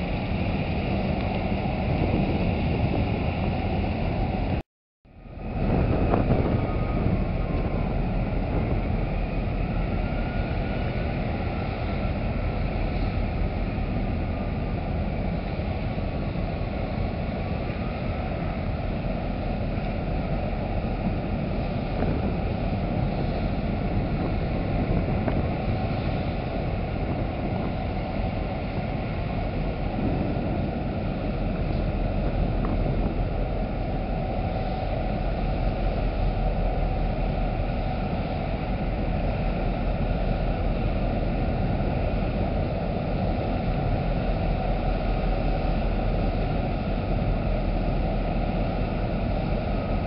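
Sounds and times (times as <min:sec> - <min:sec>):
propellers churning water: 0:00.0 - 0:50.0
ship engines rumbling: 0:00.0 - 0:50.0.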